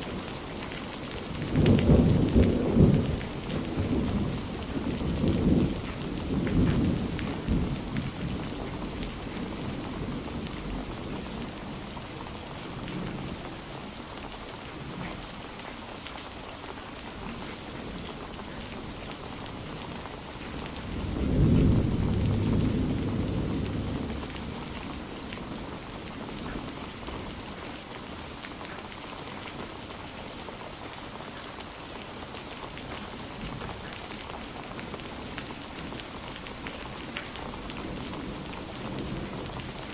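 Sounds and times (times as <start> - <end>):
thunder rumbling: 0.0 - 14.0, 17.2 - 28.3, 32.4 - 39.9
steady rain falling: 0.0 - 39.9.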